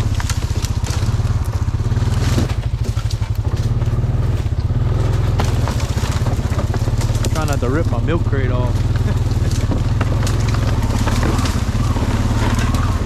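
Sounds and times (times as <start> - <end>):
atv engine running: 0.0 - 13.0
twigs and branches snapping: 0.0 - 13.0.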